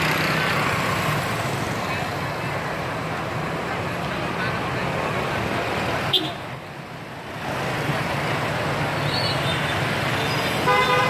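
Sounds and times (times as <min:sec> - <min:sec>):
traffic passing on road: 0:00.0 - 0:11.0.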